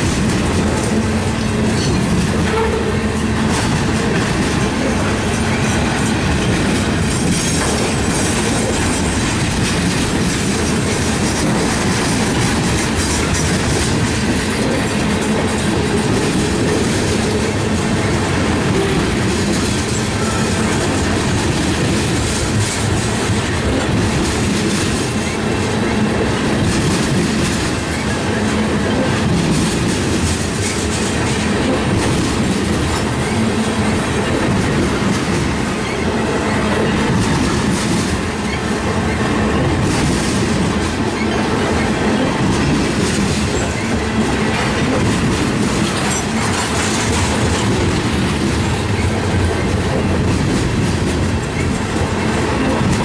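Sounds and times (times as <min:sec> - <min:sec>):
steel wheels rumbling on rail: 0:00.0 - 0:53.0
wheels clicking over rail joints: 0:00.0 - 0:53.0.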